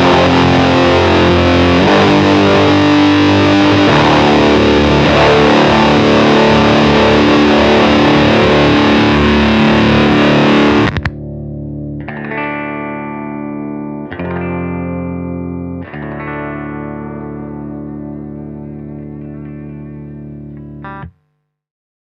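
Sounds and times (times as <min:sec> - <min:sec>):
electric guitar fuzz riff: 0:00.0 - 0:21.3
sustained fuzz guitar chords: 0:00.0 - 0:21.3.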